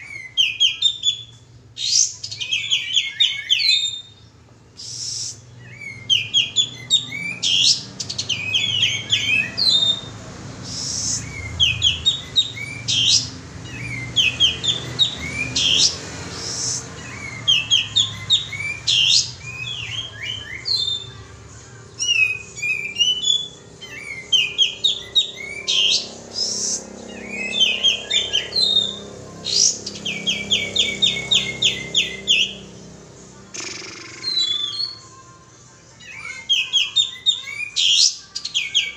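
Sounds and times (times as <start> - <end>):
bird chirping: 0.0 - 32.8, 33.4 - 35.4.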